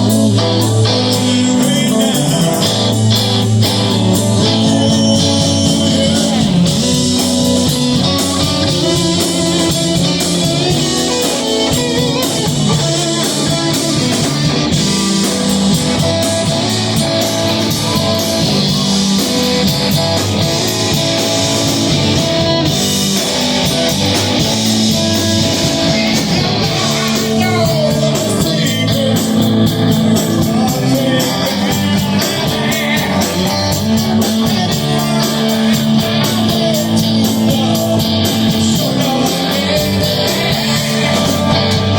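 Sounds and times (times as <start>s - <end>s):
bass line: 0.0s - 41.9s
electric guitar: 0.0s - 41.9s
rock band playing: 0.0s - 41.9s.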